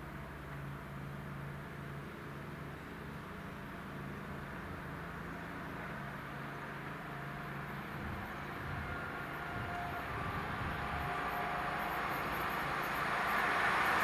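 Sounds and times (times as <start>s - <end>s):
approaching train hum: 0.0s - 14.0s.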